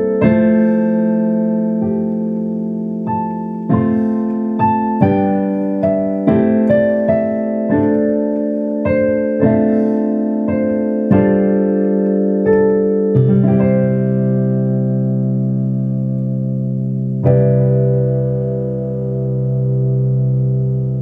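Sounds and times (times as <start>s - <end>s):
slow solo piano melody: 0.0s - 21.0s.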